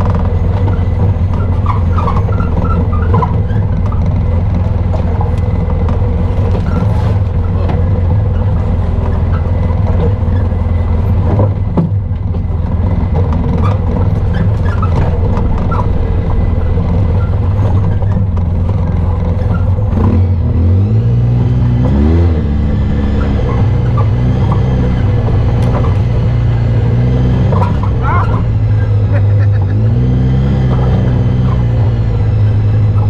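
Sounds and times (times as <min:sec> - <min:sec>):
off-road vehicle engine running: 0:00.0 - 0:33.0.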